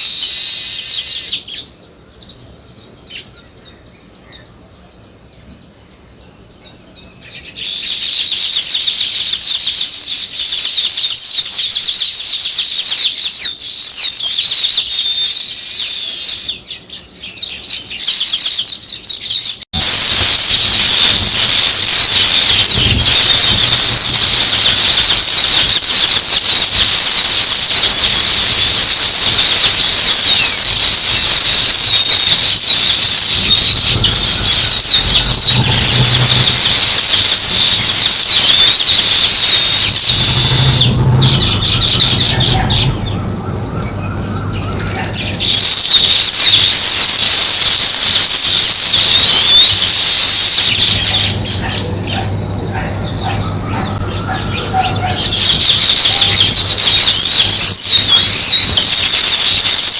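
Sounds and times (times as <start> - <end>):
weaver birds chirping: 0.0 - 59.9.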